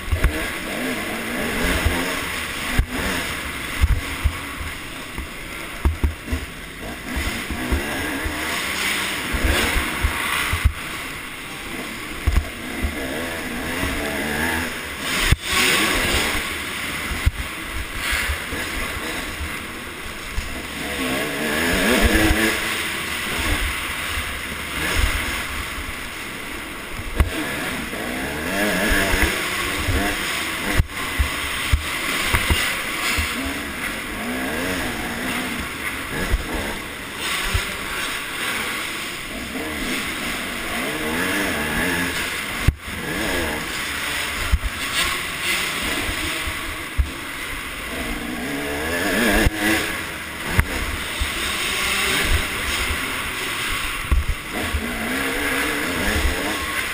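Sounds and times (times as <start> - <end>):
motocross engine revving: 0.0 - 56.9.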